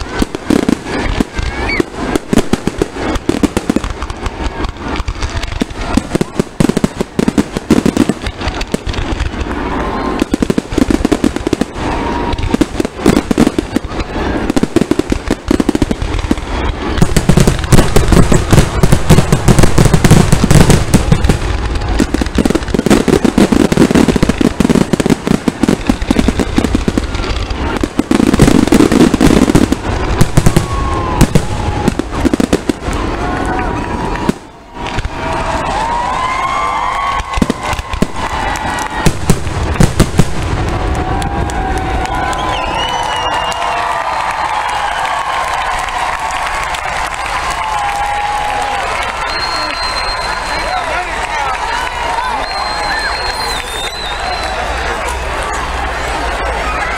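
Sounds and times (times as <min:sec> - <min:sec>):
fireworks booming and crackling: 0:00.0 - 0:56.9.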